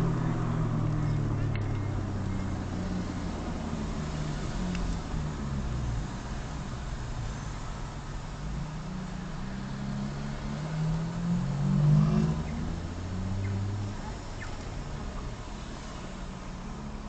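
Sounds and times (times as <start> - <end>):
car engine accelerating: 0.0 - 17.0
road noise: 0.0 - 17.0.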